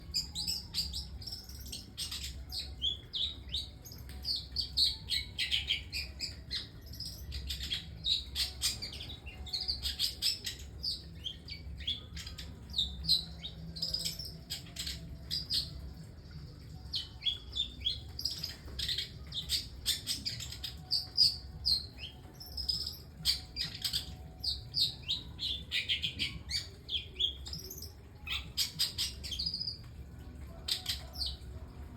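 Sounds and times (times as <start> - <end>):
bird singing chirps and whistles: 0.0 - 29.9.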